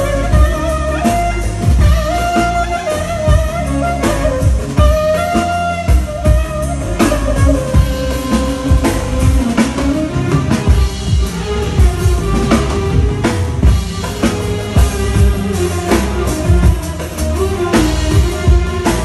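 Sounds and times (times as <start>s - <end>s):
clarinet melody: 0.0s - 19.0s
keyboard accompaniment: 0.0s - 19.0s
steady drum beat: 0.0s - 19.0s.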